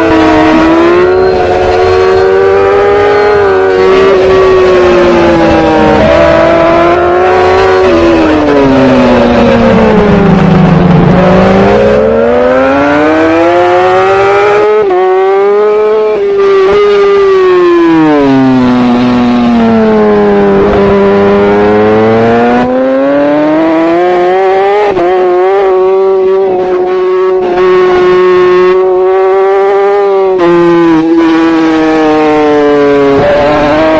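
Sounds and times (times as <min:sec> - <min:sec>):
superbike engine at high revs: 0:00.0 - 0:33.9.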